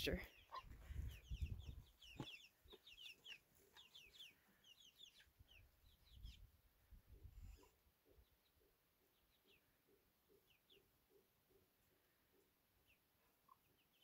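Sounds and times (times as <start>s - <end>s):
chickens chirping: 0.0s - 14.0s.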